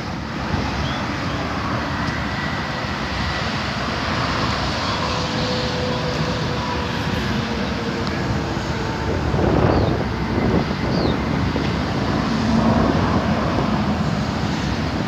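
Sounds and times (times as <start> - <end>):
low rumble of road traffic: 0.0 - 15.0
wind buffeting microphone: 0.0 - 15.0.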